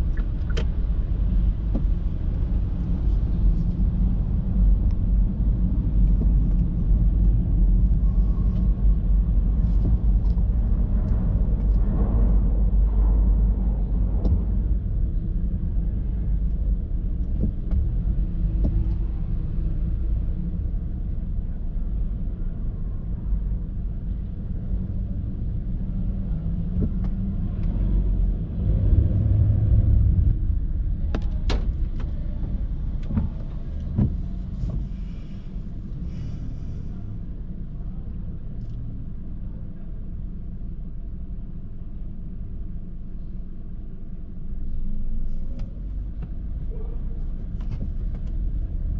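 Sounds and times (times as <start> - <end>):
passing cars rumble: 0.0 - 39.8.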